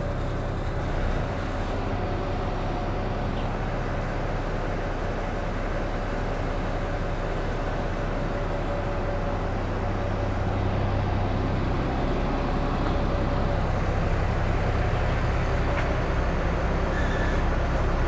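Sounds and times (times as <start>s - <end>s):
truck engine and hydraulic pump: 0.0s - 18.0s.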